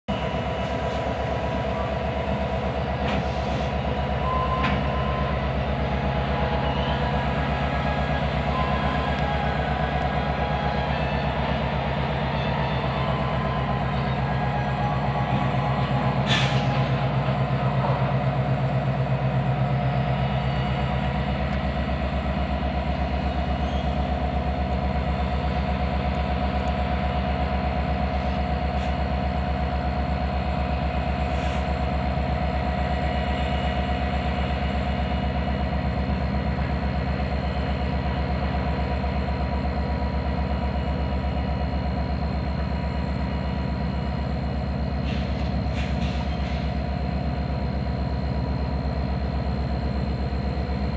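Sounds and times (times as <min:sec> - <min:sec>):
constant whine: 0:00.1 - 0:50.9
locomotive engine drone: 0:00.1 - 0:50.9.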